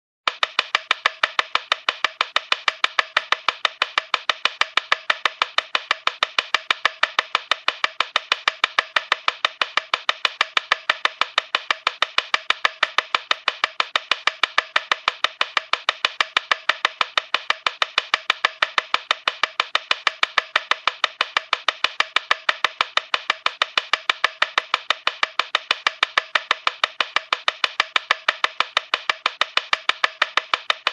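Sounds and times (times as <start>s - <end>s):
rapid woody ticking: 0.2s - 30.9s.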